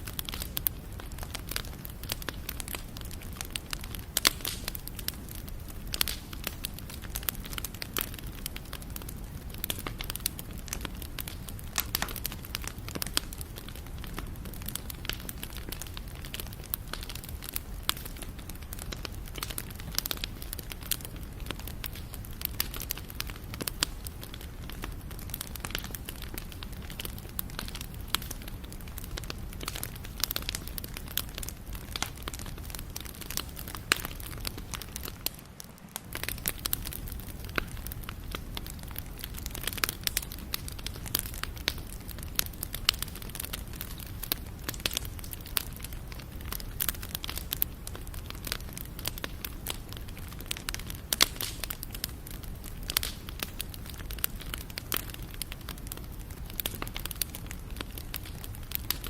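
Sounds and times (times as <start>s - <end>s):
bonfire crackling and popping: 0.0s - 59.0s
low rumble of flames: 0.0s - 59.0s.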